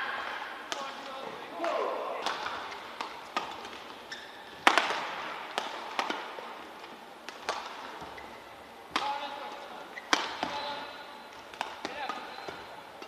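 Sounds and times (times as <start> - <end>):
racket smacking shuttlecock: 0.1 - 13.0.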